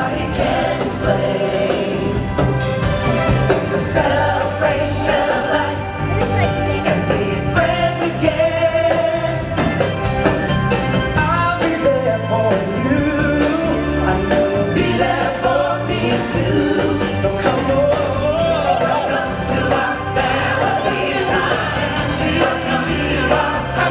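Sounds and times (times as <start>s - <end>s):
choir singing with instruments: 0.0s - 23.9s.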